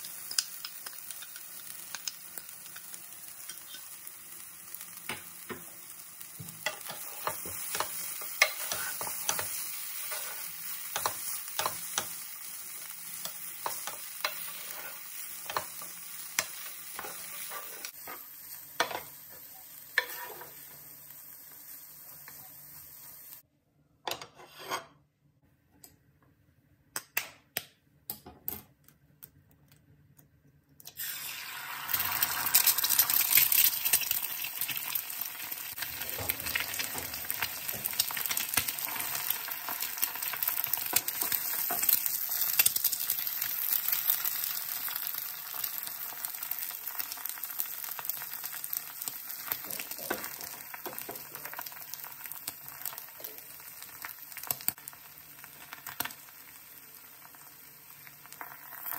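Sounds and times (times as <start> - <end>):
egg sizzling in hot oil: 0.0 - 23.4, 30.9 - 58.9.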